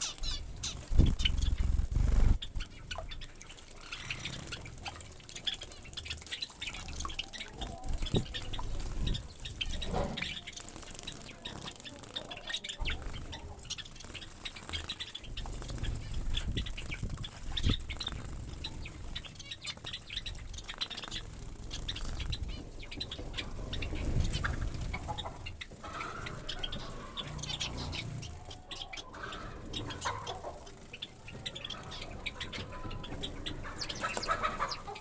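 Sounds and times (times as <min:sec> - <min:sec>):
wings fluttering and splashing: 0:00.0 - 0:35.0.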